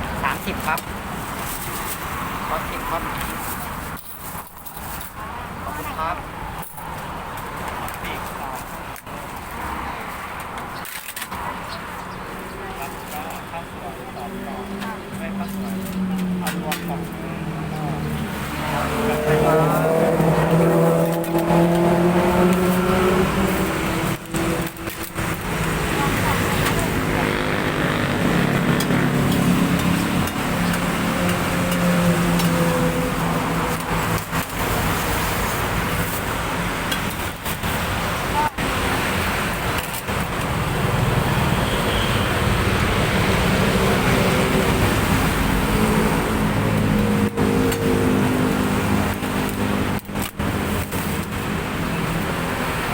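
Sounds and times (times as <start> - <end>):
road traffic noise: 0.0 - 52.9
vehicle engine hum: 8.4 - 52.9.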